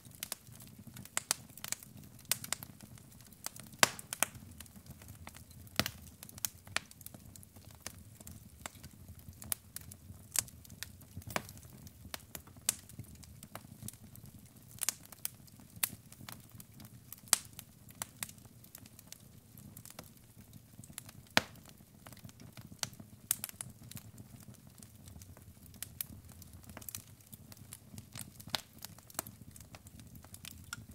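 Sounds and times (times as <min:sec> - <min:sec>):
logs crackling and popping: 0:00.0 - 0:30.9.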